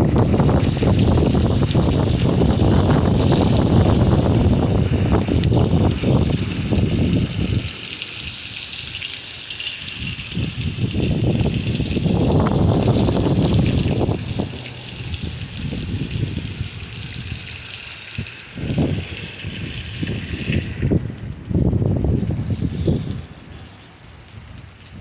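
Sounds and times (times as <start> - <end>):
wind buffeting microphone: 0.0 - 8.4, 9.8 - 25.0.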